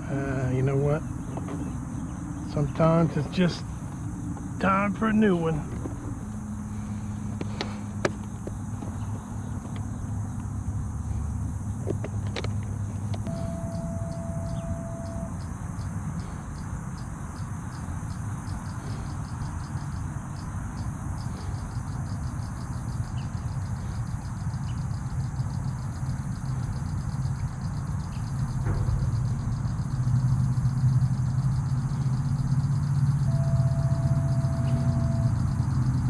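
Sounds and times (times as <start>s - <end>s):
engine humming: 0.0s - 36.0s
insects calling: 0.0s - 36.0s.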